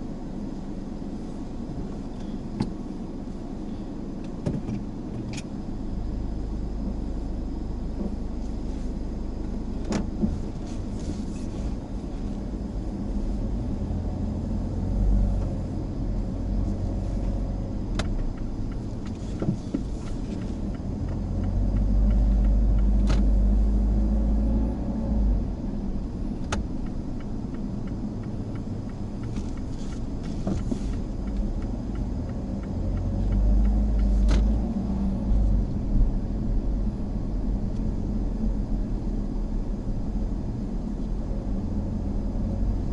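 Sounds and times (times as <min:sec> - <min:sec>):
car engine rumble: 0:00.0 - 0:42.9
road noise: 0:00.0 - 0:42.9.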